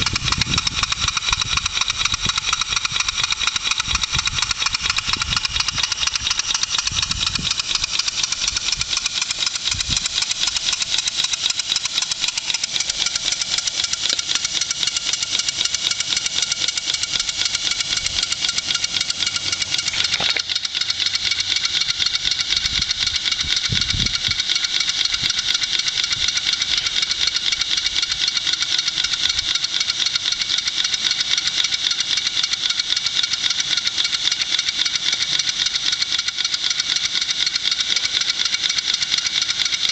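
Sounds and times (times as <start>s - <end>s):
steam engine exhaust beats: 0.0s - 39.9s.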